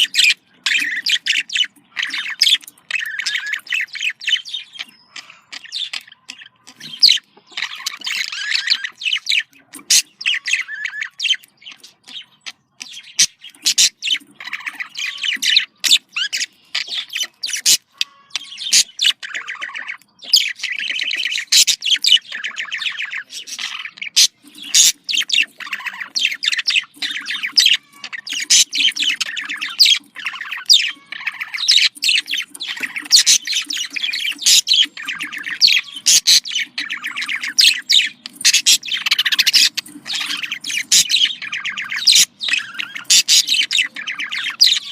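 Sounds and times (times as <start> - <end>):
budgerigars chirping and warbling: 0.0 - 44.9.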